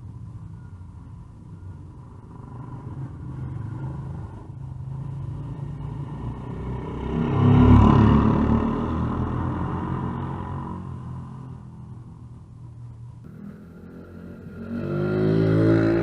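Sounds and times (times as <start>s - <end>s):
pit bike engine passing by: 1.5s - 12.2s, 13.2s - 16.0s.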